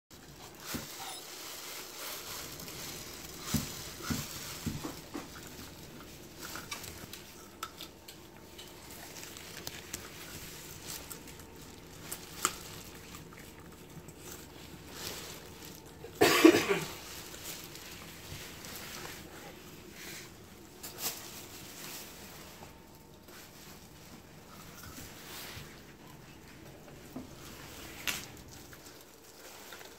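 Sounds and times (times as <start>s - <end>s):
plastic bag rustling: 0.1s - 29.9s.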